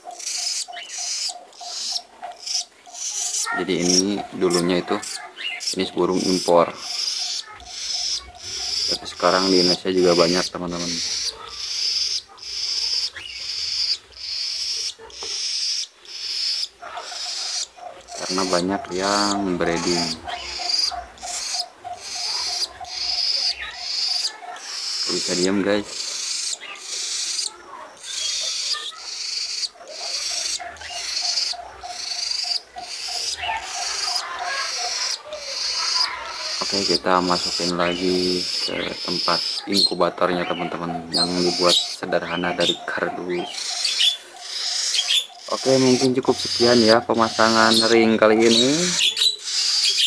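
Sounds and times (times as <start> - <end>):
budgerigar chick hissing calls: 0.1 - 50.0.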